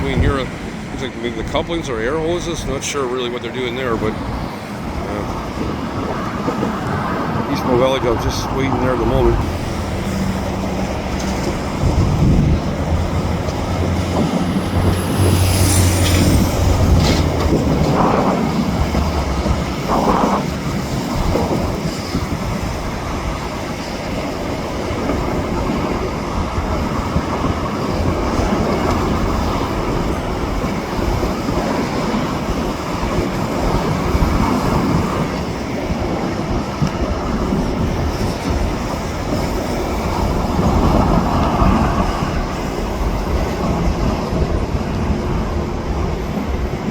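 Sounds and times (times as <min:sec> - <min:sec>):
locomotive drone: 0:00.0 - 0:46.9
train cars rolling on track: 0:00.0 - 0:46.9.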